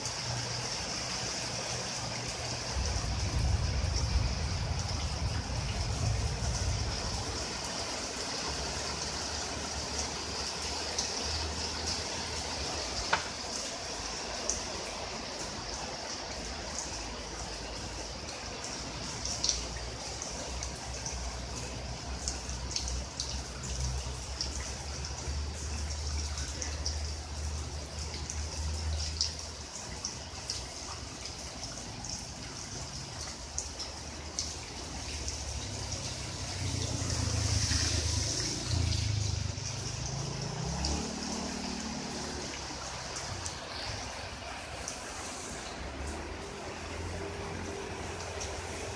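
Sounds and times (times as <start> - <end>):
rain falling on water and plants: 0.0 - 48.9
water dripping: 0.0 - 48.9.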